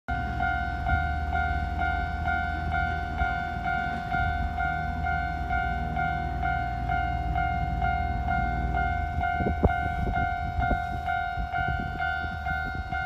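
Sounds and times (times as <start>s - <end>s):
level crossing warning bell: 0.1s - 13.0s.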